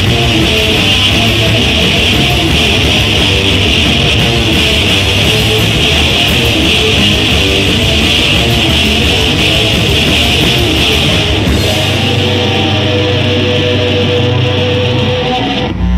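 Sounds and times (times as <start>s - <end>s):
distorted electric guitars: 0.0s - 15.9s
live rock band playing: 0.0s - 15.9s.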